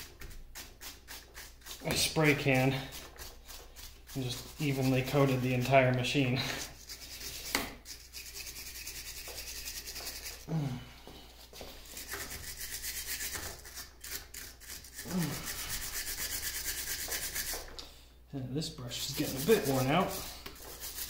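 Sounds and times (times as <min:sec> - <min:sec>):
brush scrubbing metal: 0:00.0 - 0:10.5, 0:11.5 - 0:17.7, 0:19.0 - 0:21.0.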